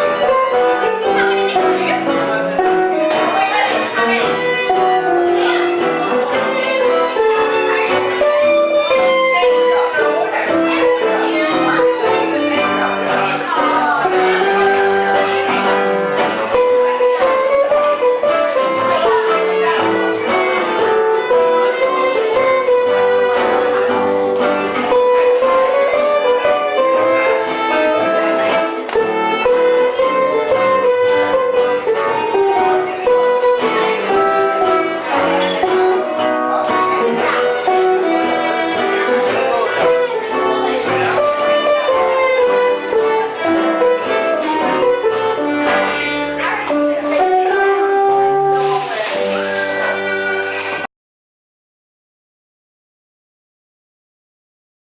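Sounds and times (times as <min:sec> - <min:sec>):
strummed and plucked guitar: 0:00.0 - 0:50.9
violin melody: 0:00.0 - 0:50.9.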